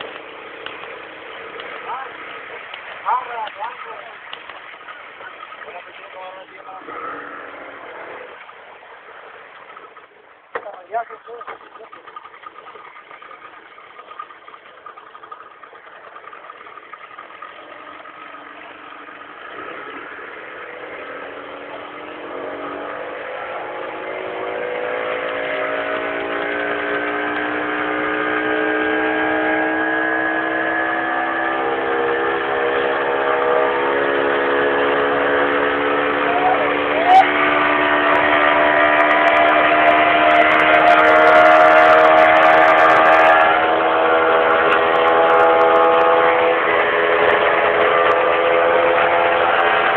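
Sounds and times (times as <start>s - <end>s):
boat motor rising in pitch: 0.0s - 49.9s.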